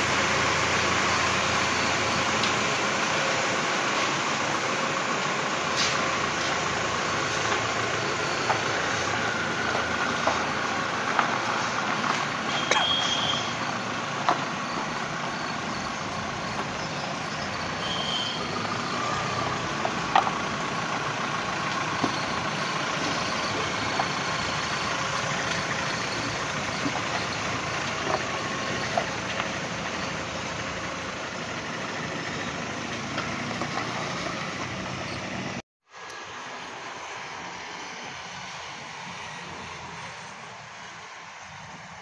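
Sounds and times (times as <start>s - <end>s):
steady vehicle noise: 0.0s - 42.0s.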